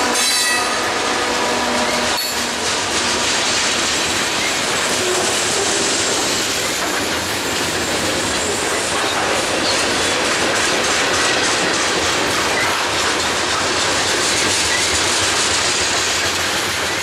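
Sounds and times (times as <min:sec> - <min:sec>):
steel train wheels rolling on rail: 0:00.0 - 0:17.0.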